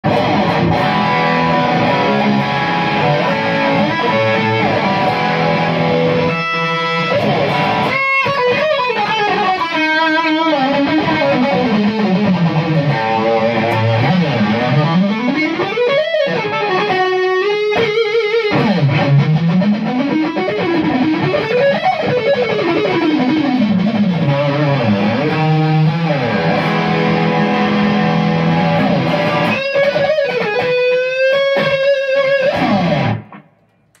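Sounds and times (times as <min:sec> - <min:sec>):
guitar whammy bar pitch dives: 0:00.0 - 0:16.5, 0:22.4 - 0:34.0
distorted electric guitar shredding: 0:00.0 - 0:33.7.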